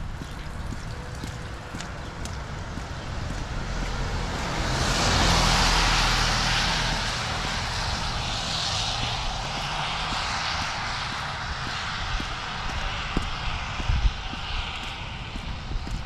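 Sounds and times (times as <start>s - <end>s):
vehicle passing on wet road: 0.0s - 16.0s.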